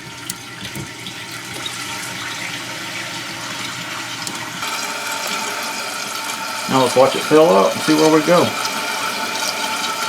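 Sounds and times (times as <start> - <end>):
water refilling toilet tank: 0.0 - 10.0.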